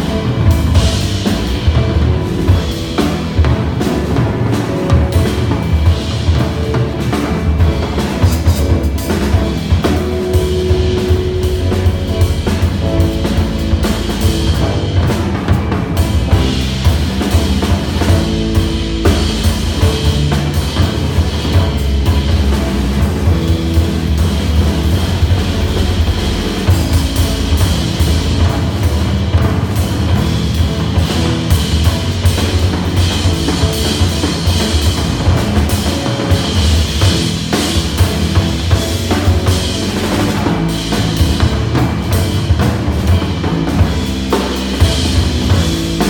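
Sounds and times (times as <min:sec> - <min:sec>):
drum solo: 0:00.0 - 0:46.0.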